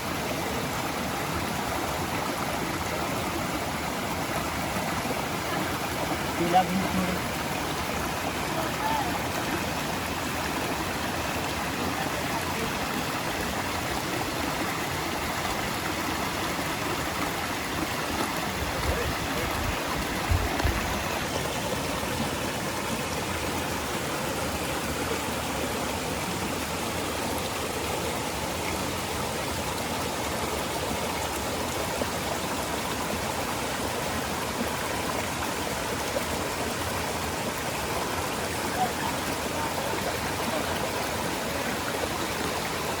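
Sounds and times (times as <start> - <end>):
stream and waterfall rushing: 0.0 - 43.0.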